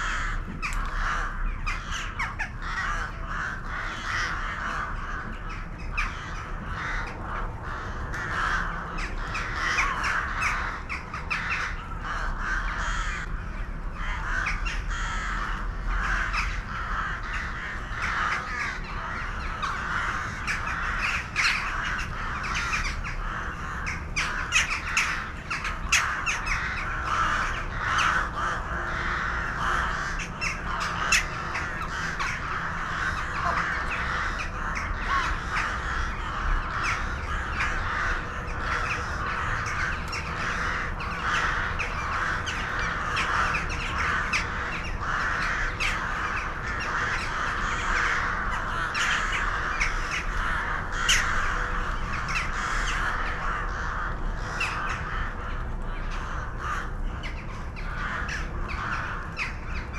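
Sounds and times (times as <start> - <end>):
flock of birds calling: 0.0 - 59.9.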